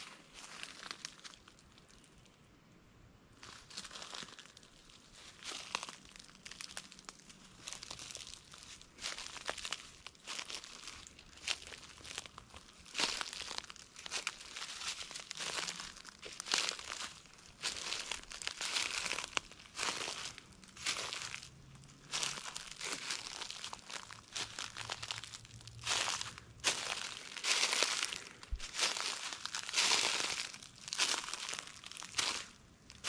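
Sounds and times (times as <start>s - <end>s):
footsteps crunching dry leaves: 0.0s - 1.6s, 3.4s - 33.0s.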